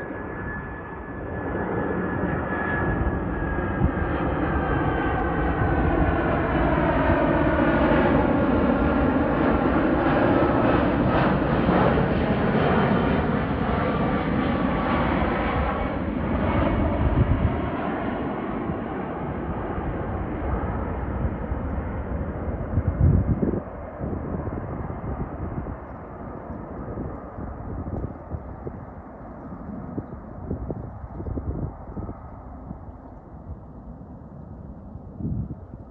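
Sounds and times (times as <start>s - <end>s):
jet engines whining: 0.0s - 35.9s.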